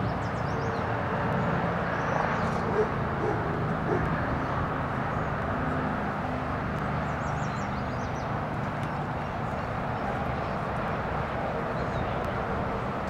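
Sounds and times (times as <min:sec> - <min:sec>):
outdoor rumble and hum: 0:00.0 - 0:13.0.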